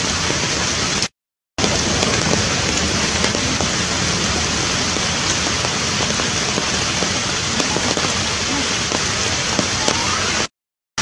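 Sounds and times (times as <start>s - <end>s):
steady rain falling: 0.0s - 10.5s.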